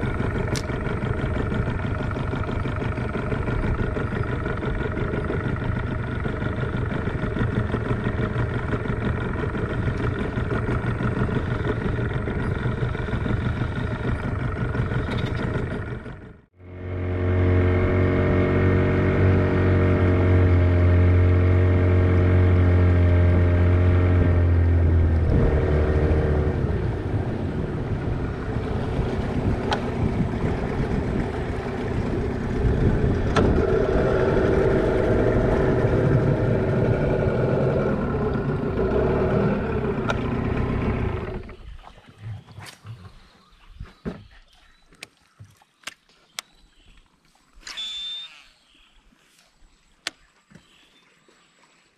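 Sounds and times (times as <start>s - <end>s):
boat engine running: 0.0s - 45.1s.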